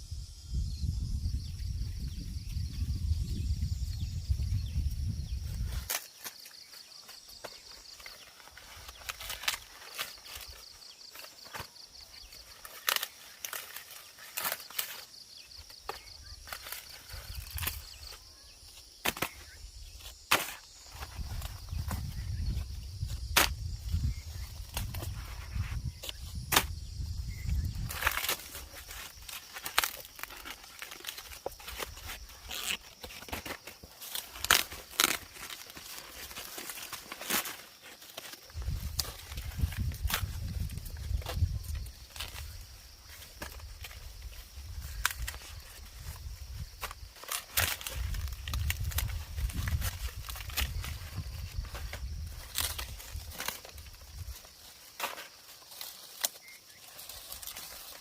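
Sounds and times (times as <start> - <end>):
snaps and rustles in vegetation: 1.9 - 58.0.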